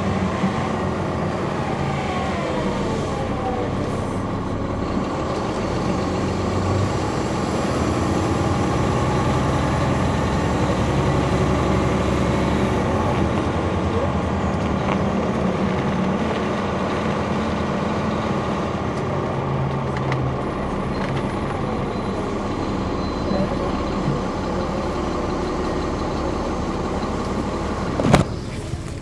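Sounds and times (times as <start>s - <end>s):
bus engine droning: 0.0s - 29.0s.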